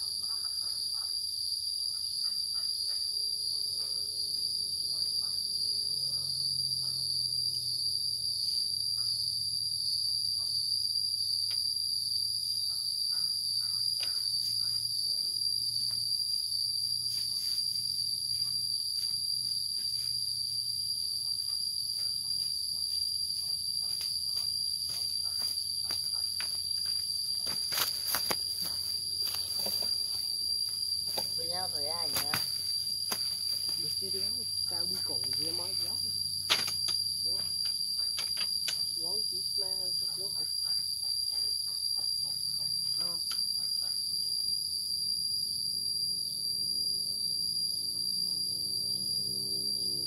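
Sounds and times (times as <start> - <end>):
insects chorus: 0.0 - 50.0.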